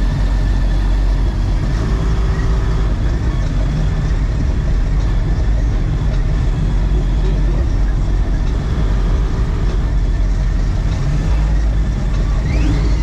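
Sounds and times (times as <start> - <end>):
vehicles idling rumble: 0.0 - 13.0.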